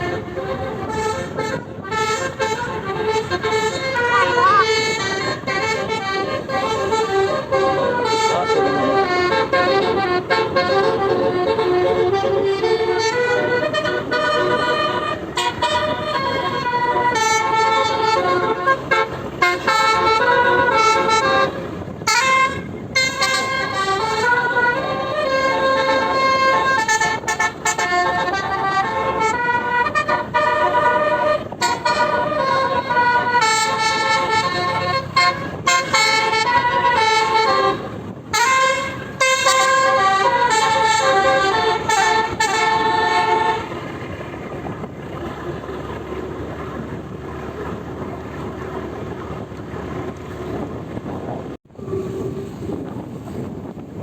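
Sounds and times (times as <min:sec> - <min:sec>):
multi-tone bus horn melody: 0:00.0 - 0:54.0.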